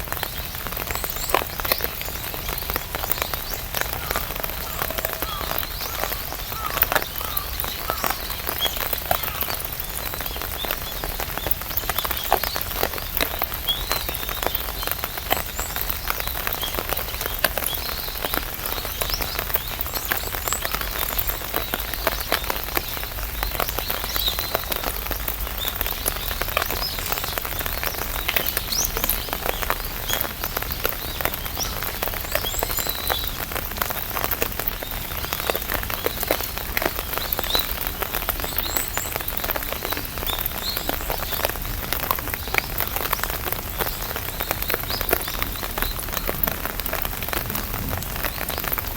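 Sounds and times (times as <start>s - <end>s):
rain on an umbrella: 0.0s - 48.9s.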